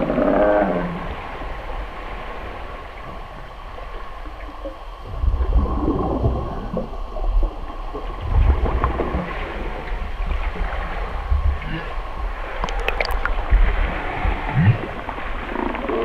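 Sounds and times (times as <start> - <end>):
whale calling underwater: 0.0 - 16.0.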